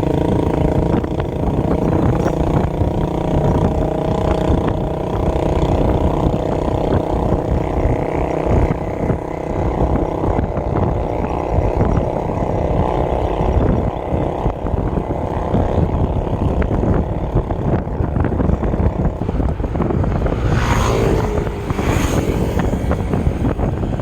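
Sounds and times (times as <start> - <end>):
road rumble: 0.0 - 24.0
wind rushing over microphone: 0.0 - 24.0.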